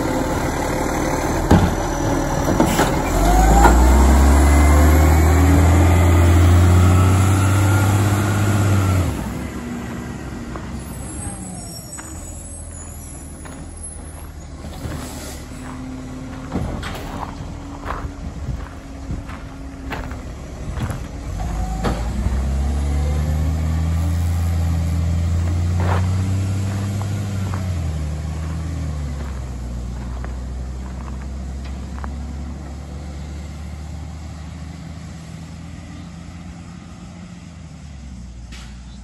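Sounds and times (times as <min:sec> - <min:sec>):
garbage truck diesel engine: 0:00.0 - 0:39.0.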